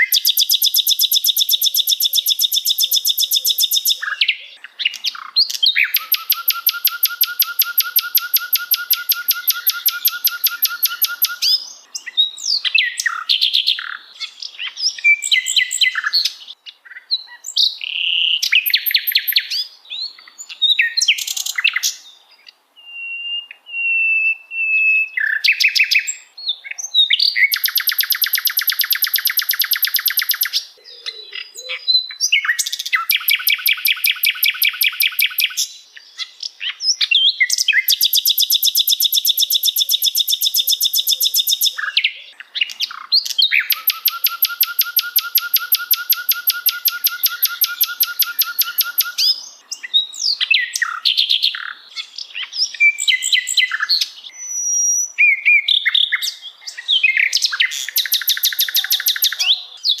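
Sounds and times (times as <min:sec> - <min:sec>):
songbird trills and chirps: 0:00.0 - 1:00.0.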